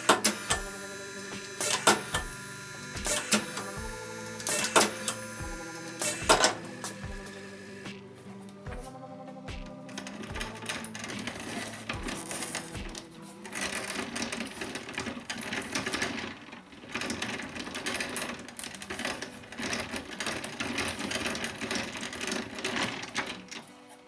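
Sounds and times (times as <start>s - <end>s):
sewing machine stitching leather: 0.0s - 7.8s, 10.1s - 24.0s.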